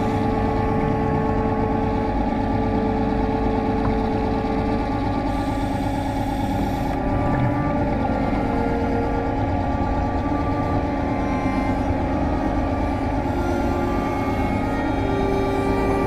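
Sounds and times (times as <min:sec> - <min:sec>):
electric motor humming underwater: 0:00.0 - 0:16.0.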